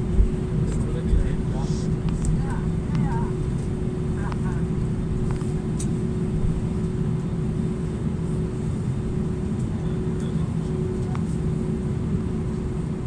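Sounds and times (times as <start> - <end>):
aircraft cabin rumble and hum: 0.0 - 13.0.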